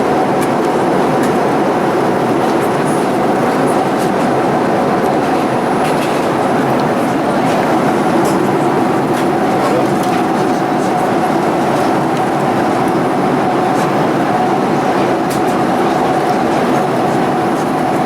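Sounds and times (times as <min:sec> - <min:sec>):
aircraft cabin engine rush: 0:00.0 - 0:18.0.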